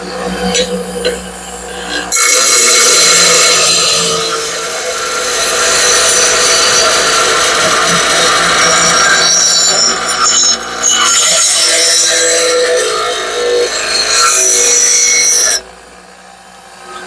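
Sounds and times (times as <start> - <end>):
blade being ground: 0.0 - 15.6
power tool motor running: 0.0 - 17.0.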